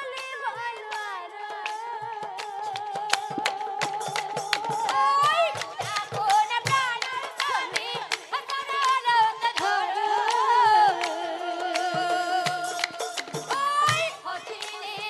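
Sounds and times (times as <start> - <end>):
percussion strokes: 0.0 - 15.0.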